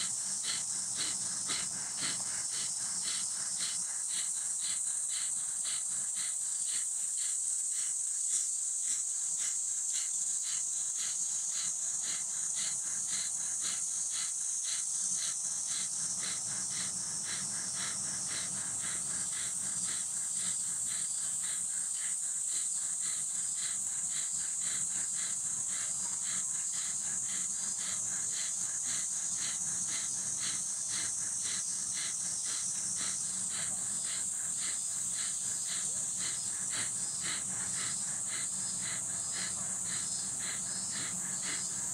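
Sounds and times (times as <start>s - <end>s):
cicadas droning: 0.0s - 41.9s
forceful breaths through nose: 0.0s - 41.9s.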